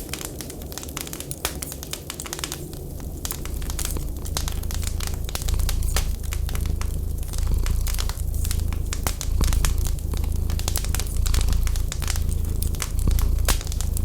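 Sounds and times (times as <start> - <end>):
wood fire crackling and popping: 0.0 - 14.0
low rumble: 2.7 - 14.0.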